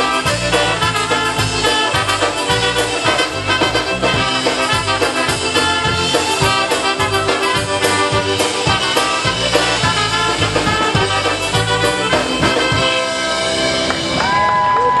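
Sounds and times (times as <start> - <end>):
polka band playing: 0.0 - 15.0.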